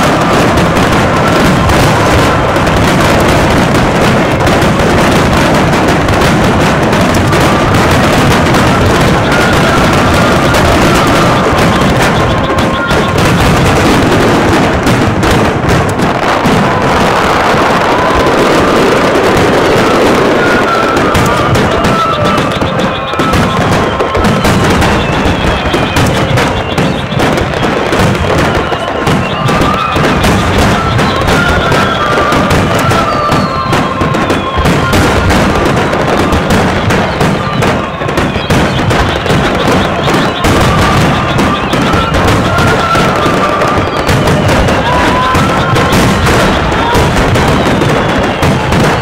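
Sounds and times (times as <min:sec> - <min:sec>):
fireworks shells bursting: 0:00.0 - 0:49.0.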